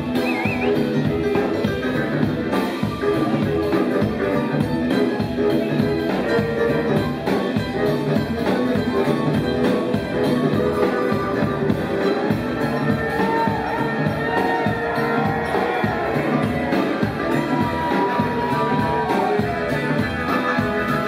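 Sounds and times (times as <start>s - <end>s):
drums: 0.0s - 21.0s
electric guitar: 0.0s - 21.0s.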